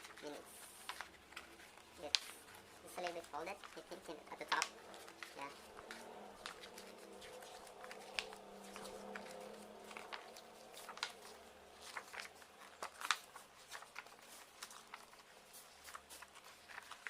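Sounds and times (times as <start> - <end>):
paper pages rustling: 0.0 - 17.0.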